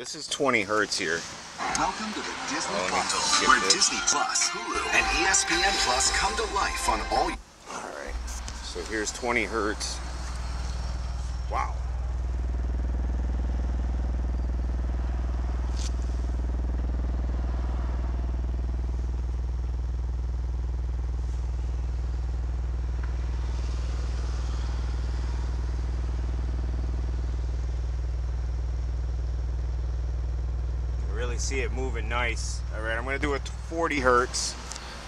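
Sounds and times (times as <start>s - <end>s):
subwoofer low test tone drone: 4.8s - 34.8s.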